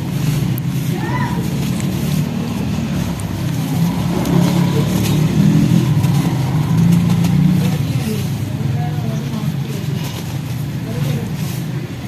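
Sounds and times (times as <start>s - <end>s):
dry material being crushed: 0.0s - 12.0s.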